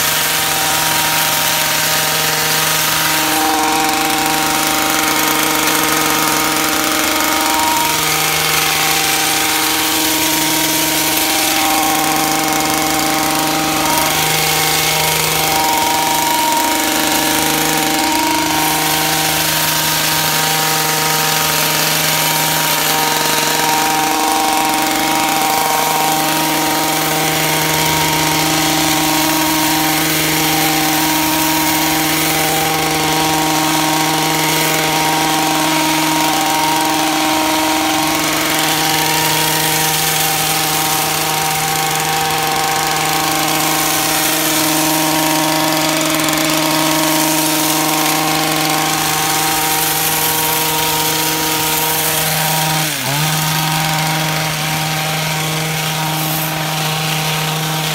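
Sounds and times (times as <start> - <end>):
hedge trimmer engine running: 0.0 - 57.9.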